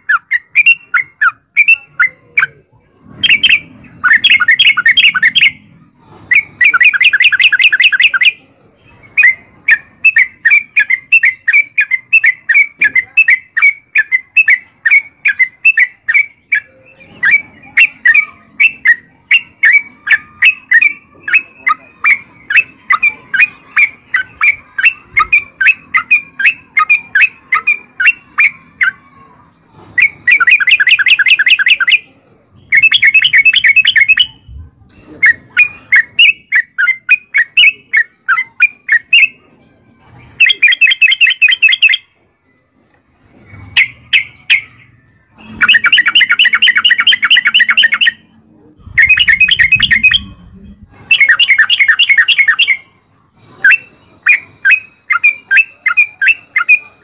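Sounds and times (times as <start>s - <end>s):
bird chattering and chirping: 0.0s - 57.0s.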